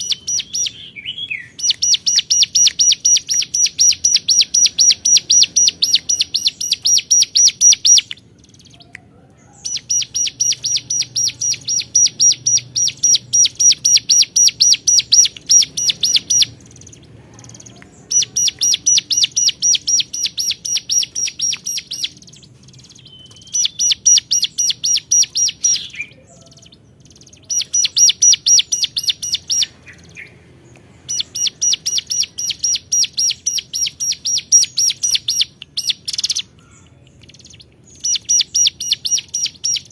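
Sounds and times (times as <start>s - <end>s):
bird singing rapid sharp notes: 0.0s - 8.9s, 9.5s - 39.9s.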